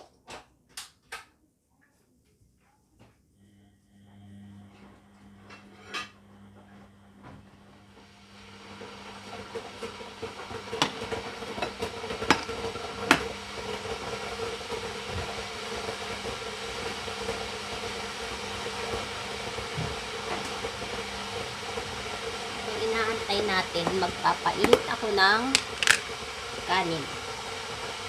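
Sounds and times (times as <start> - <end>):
kitchen appliance hissing and humming: 3.4 - 28.0.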